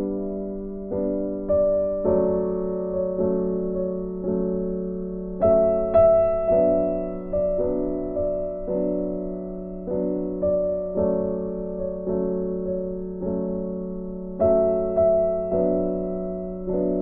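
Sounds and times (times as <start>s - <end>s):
soft piano chords: 0.0s - 17.0s.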